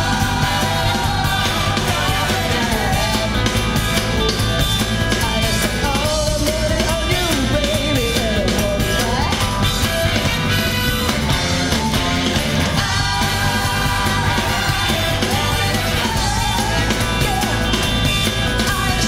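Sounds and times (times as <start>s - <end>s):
bass guitar: 0.0s - 19.0s
drums: 0.0s - 19.0s.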